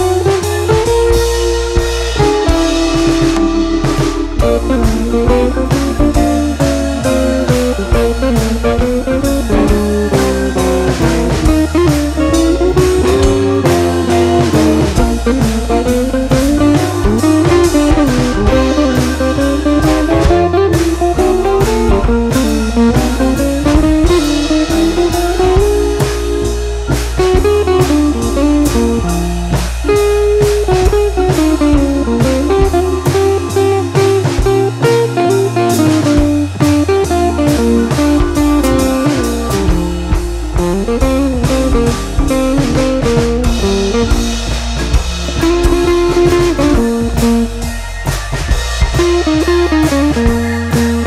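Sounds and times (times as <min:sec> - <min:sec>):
blues guitar: 0:00.0 - 0:51.0
drum kit beat: 0:00.0 - 0:51.0.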